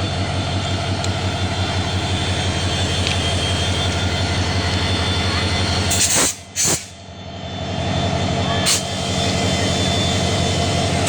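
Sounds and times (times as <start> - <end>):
locomotive engine throbbing: 0.0 - 11.0.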